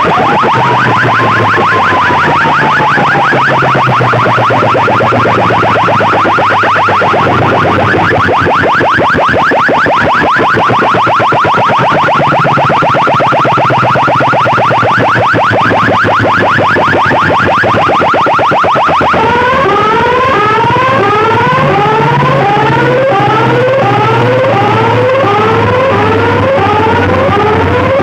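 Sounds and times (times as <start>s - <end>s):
electronic siren effect: 0.0s - 28.0s.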